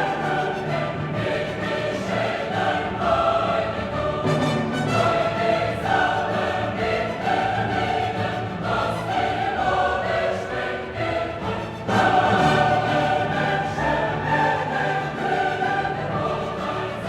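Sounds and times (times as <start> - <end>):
choir singing with orchestra: 0.0 - 17.0.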